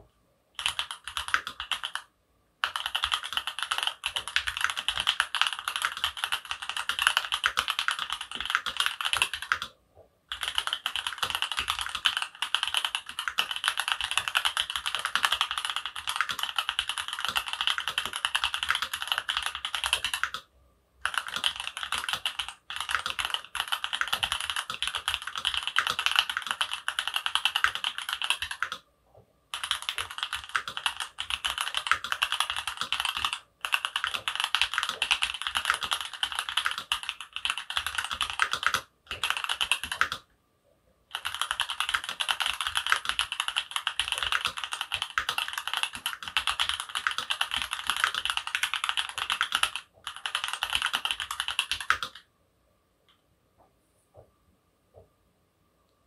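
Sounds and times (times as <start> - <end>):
mechanical keyboard typing: 0.6 - 28.8, 29.5 - 40.3, 41.1 - 52.2.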